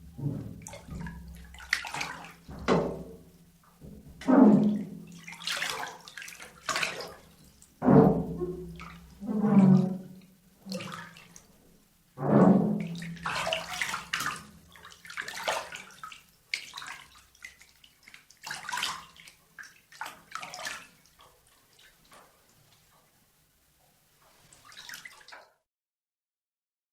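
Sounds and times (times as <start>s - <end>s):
water splashing in a bathtub: 0.0s - 25.6s.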